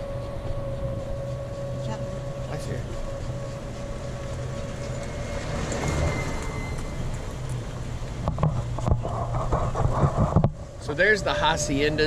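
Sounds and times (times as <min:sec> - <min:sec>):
golf cart motor hum: 0:00.0 - 0:12.0.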